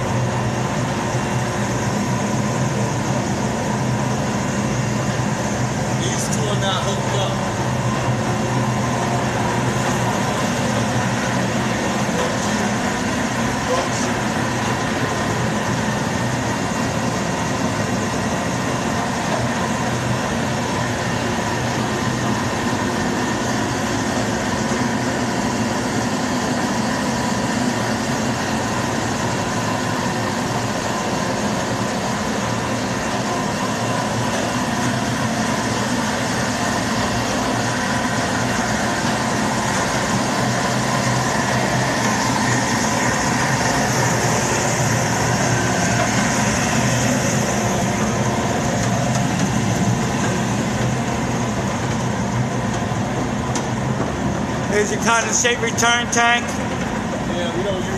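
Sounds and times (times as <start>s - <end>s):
machinery hum and roar: 0.0s - 57.9s.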